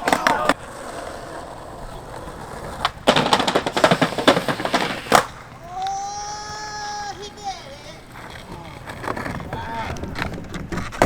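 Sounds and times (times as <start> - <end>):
skateboard clattering and scraping: 0.0 - 11.0
skateboard wheels rolling on concrete: 0.0 - 11.0.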